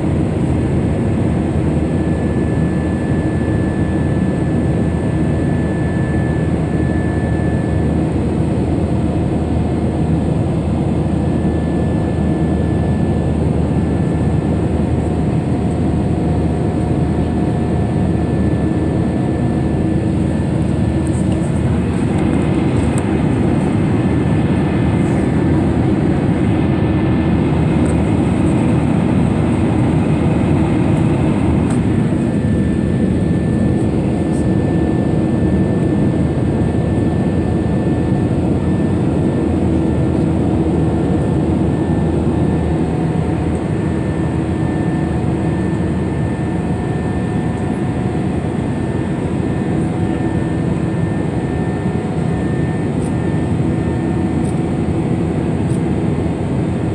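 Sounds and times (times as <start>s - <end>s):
jet engines and airflow rushing: 0.0s - 56.9s.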